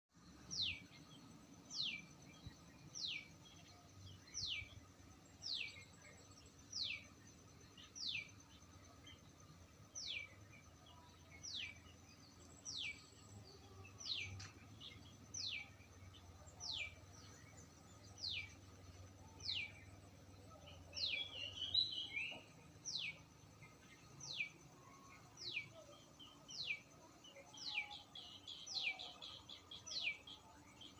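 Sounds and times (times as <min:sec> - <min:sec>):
bird chirps: 0:00.2 - 0:30.9.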